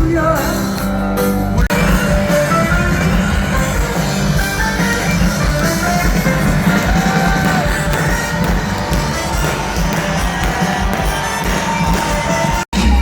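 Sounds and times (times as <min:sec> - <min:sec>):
live rock band: 0:00.0 - 0:12.6.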